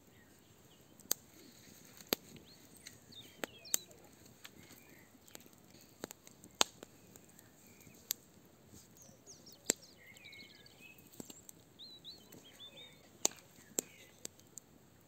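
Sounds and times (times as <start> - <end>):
birds chirping: 0.0 - 8.2, 8.8 - 14.6
wood fire crackling pops: 0.2 - 14.7.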